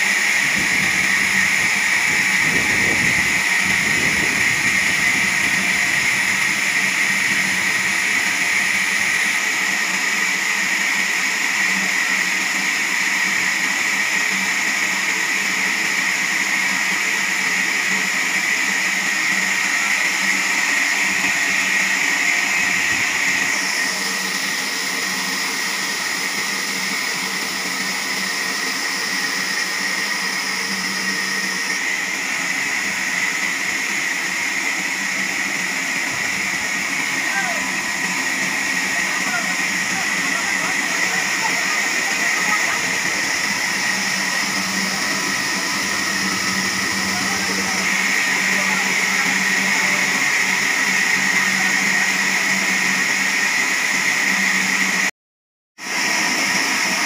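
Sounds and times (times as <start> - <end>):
band sawmill cutting log: 0.0 - 55.1, 55.8 - 57.0.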